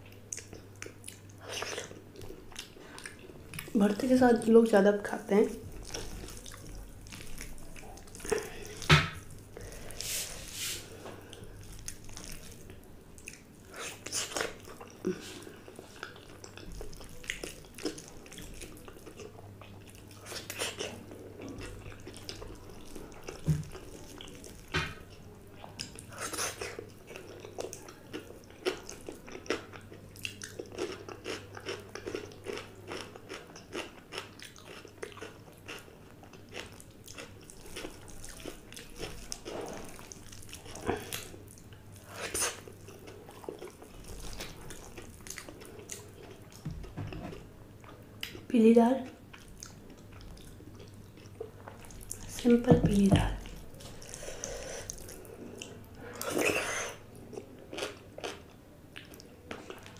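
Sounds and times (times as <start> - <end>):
chewing and wet mouth smacks: 0.3 - 3.8, 5.7 - 9.4, 11.3 - 48.5, 49.3 - 52.4, 53.4 - 59.9
food crunching: 5.5 - 10.0, 10.9 - 48.5, 49.1 - 59.9.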